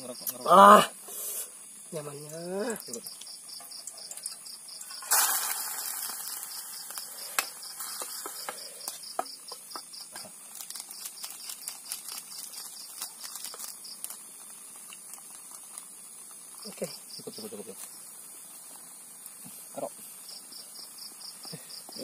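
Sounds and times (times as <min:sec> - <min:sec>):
fish sizzling in hot pot: 0:00.0 - 0:22.0
insects chirping: 0:00.0 - 0:22.0.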